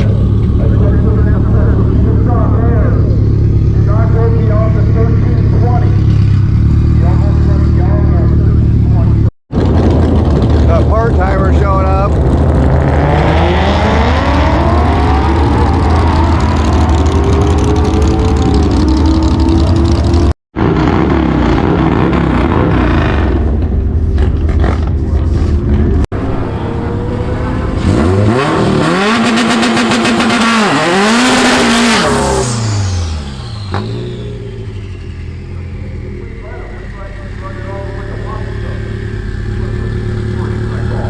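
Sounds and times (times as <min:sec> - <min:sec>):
turbocharged car engine revving: 0:00.0 - 0:41.0.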